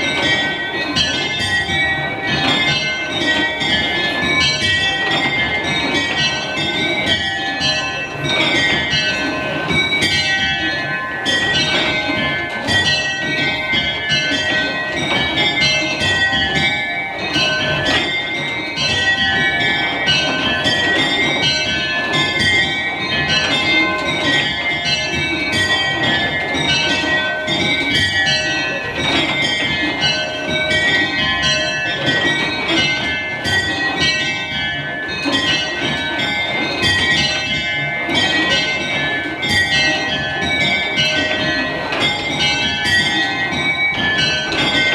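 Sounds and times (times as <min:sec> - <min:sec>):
tower bells change ringing: 0:00.0 - 0:44.9.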